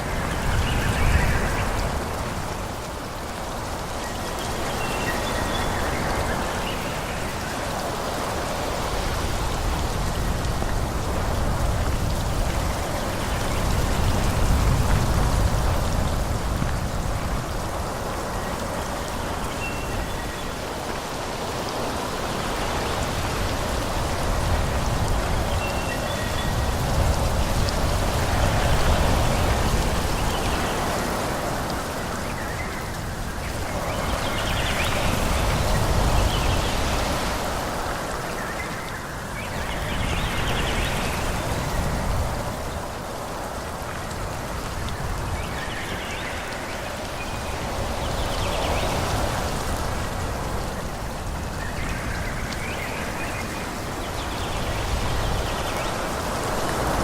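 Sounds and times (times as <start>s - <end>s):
wind through foliage: 0.0s - 57.0s.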